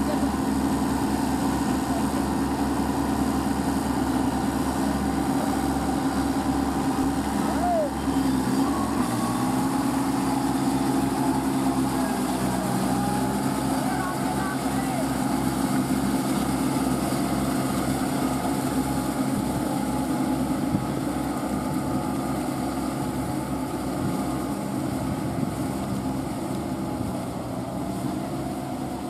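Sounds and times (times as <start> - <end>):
tractor engines running: 0.0 - 29.0.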